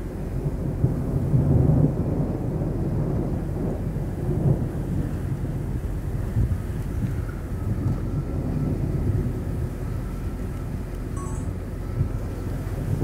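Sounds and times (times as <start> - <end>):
low rolling thunder: 0.0 - 13.0.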